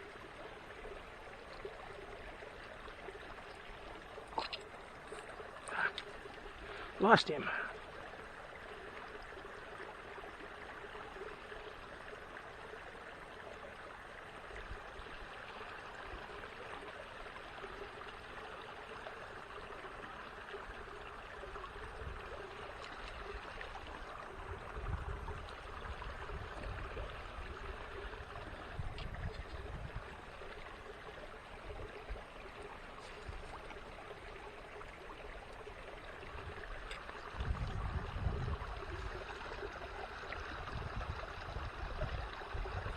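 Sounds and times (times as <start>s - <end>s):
creek water trickling: 0.0s - 42.9s.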